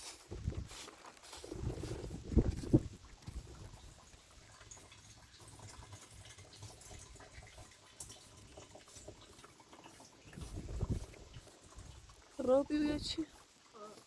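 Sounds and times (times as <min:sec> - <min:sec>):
water dripping and splashing: 0:00.0 - 0:14.0.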